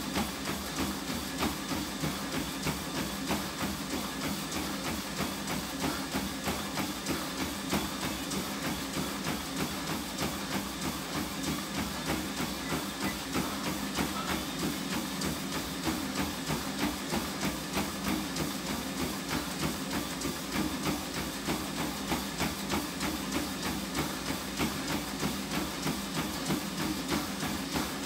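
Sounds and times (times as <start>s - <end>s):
footfalls on treadmill belt: 0.0s - 28.0s
treadmill motor hum: 0.0s - 28.0s.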